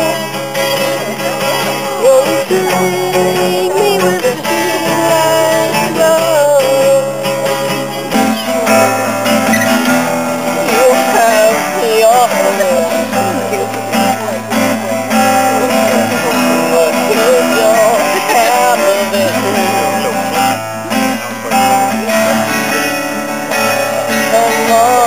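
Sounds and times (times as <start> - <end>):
acoustic guitar: 0.0 - 25.0
man singing: 0.0 - 25.0.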